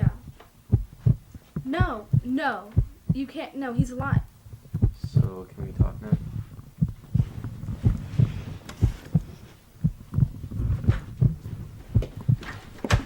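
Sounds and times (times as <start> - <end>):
heartbeat thuds: 0.0 - 13.0.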